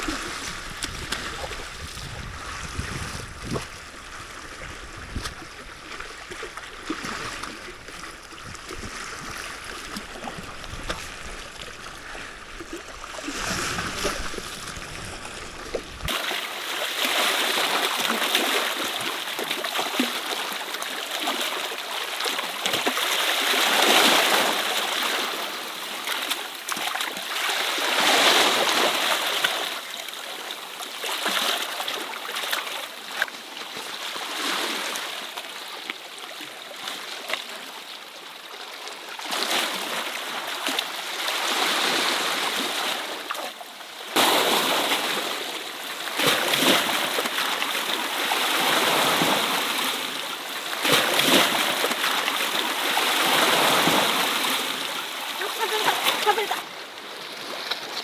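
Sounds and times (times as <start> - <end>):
sea water splashing over rocks: 0.0 - 29.9, 39.2 - 58.0.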